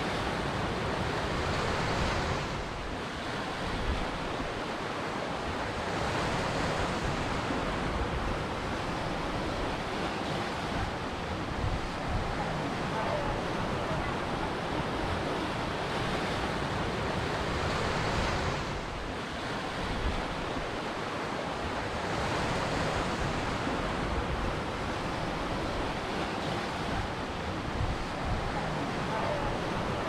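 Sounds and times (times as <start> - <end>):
waves breaking and washing: 0.0 - 30.0.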